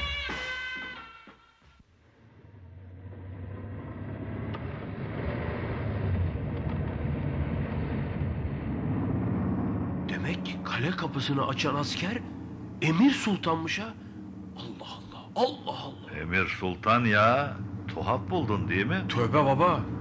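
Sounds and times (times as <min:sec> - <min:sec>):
road noise: 0:02.0 - 0:20.0
truck engine rumble: 0:02.0 - 0:20.0.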